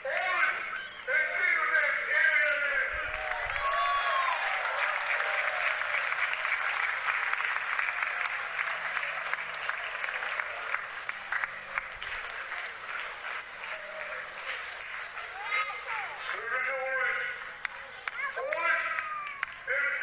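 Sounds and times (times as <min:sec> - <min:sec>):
congregation applauding: 0:00.0 - 0:20.0.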